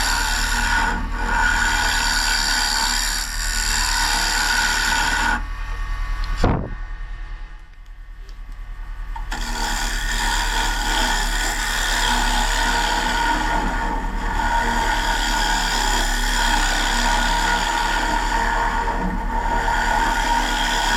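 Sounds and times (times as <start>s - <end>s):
turning tool scraping wood: 0.0s - 5.4s, 9.2s - 20.9s
wood lathe humming: 0.0s - 6.4s, 9.2s - 20.9s.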